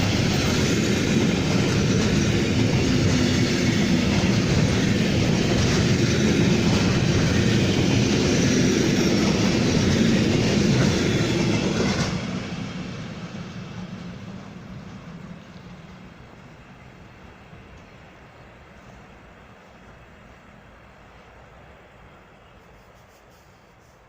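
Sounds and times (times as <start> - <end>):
train running past on tracks: 0.0 - 24.0.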